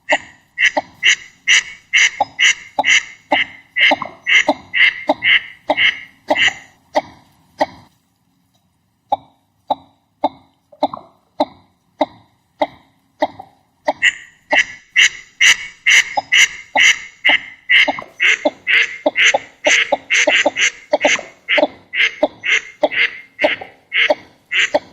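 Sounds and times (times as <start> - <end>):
duck calling: 0.0 - 7.8, 10.8 - 24.9.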